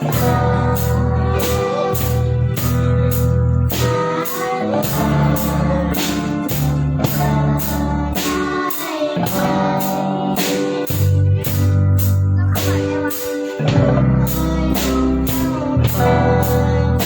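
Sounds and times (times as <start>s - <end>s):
person singing: 0.0s - 11.6s, 12.4s - 17.0s
band playing a song: 0.0s - 17.0s
bass notes: 0.0s - 17.0s
drum kit beat: 0.0s - 17.0s.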